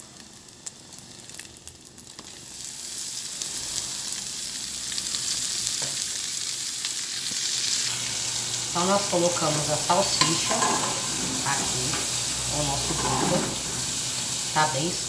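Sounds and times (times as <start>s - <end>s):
bacon frying with crackles: 0.0s - 15.0s
sausage sizzling in hot fat: 0.0s - 15.0s.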